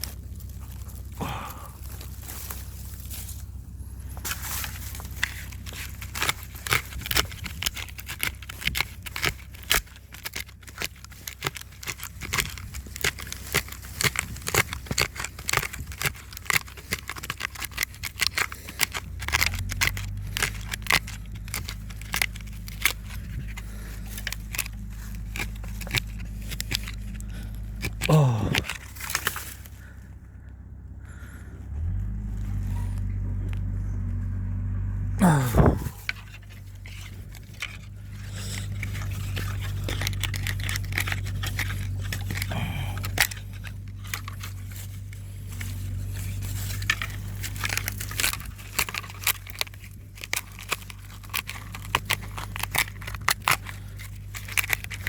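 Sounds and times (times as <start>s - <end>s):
branch scraping into soil: 0.0s - 30.1s, 35.2s - 55.0s
low steady hum: 0.0s - 55.0s.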